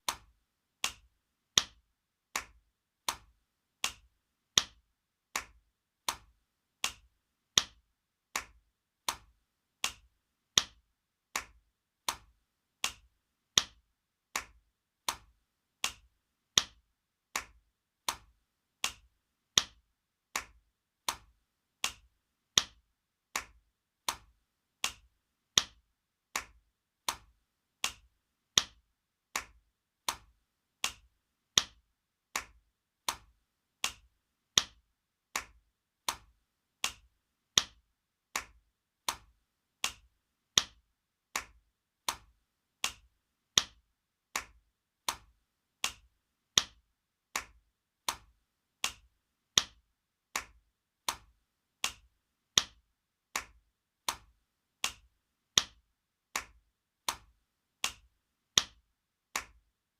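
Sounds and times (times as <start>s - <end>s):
hand slapping skin: 0.0s - 55.8s, 56.4s - 58.8s, 59.4s - 59.6s.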